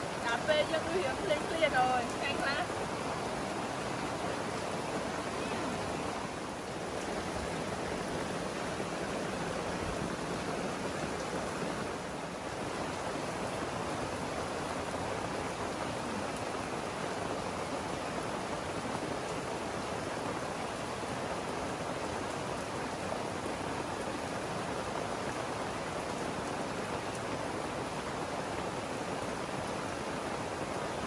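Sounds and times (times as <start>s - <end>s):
steady rain pouring: 0.0s - 31.0s.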